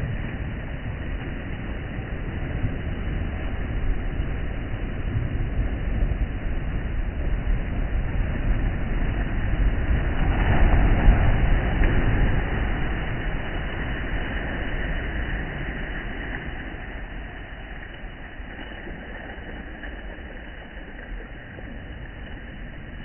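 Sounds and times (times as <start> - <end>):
sea waves on a shore: 0.0 - 23.0.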